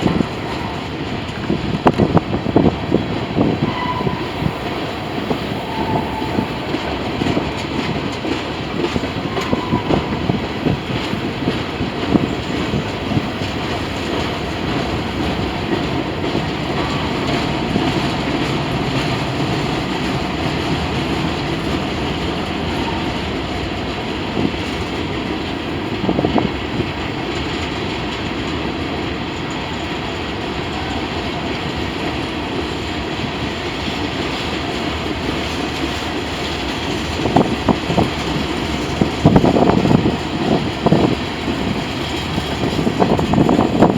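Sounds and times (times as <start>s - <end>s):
sharp clacks of train wheels: 0.0s - 43.9s
train wheels rumbling on rail: 0.0s - 43.9s.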